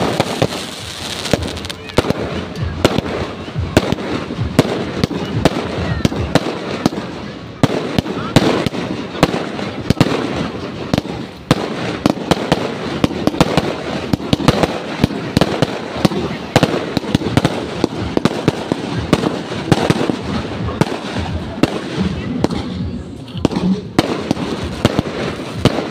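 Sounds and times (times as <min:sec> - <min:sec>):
fireworks bangs and pops: 0:00.0 - 0:25.9
fireworks crackle: 0:00.0 - 0:25.9.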